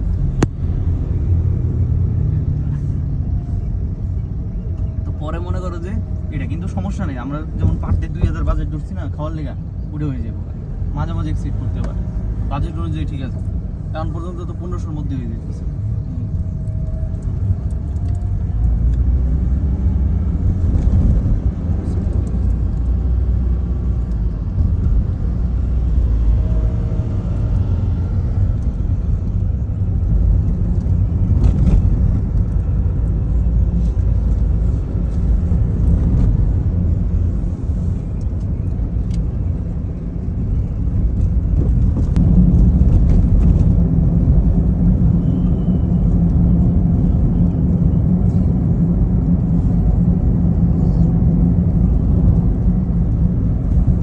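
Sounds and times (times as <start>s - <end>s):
road vehicle rumbling: 0.0s - 54.0s.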